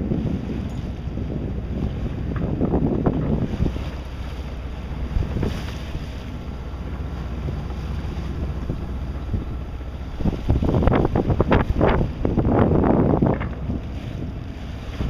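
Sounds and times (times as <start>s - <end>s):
sea water rushing along hull: 0.0s - 15.0s
wind buffeting microphone: 0.0s - 15.0s.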